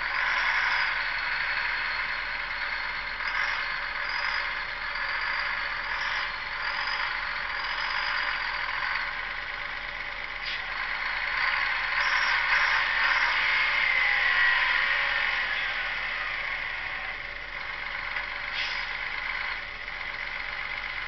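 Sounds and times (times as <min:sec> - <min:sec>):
diesel truck engine running: 0:00.0 - 0:21.0
high engine whine: 0:00.0 - 0:21.0.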